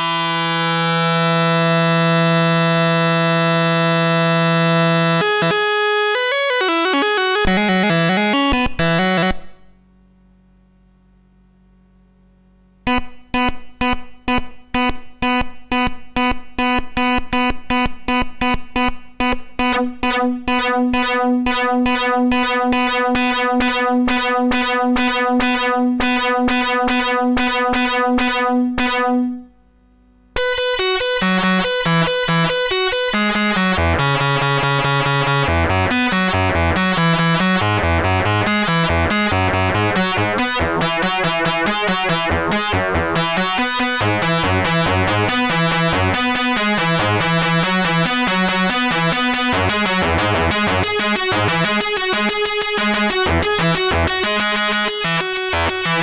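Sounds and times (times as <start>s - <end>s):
analogue synthesizer notes: 0.0s - 9.9s, 12.4s - 56.0s.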